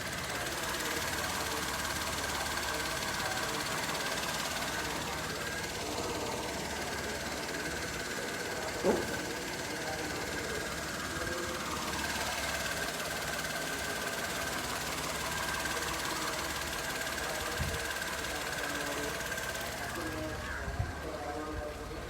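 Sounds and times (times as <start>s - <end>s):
car engine idling: 0.0s - 22.0s
thin steady whine: 0.0s - 22.0s.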